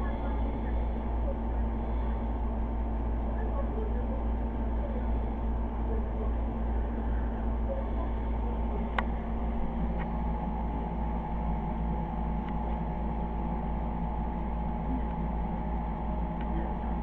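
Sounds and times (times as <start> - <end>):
electric cooling fans humming: 0.0 - 17.0.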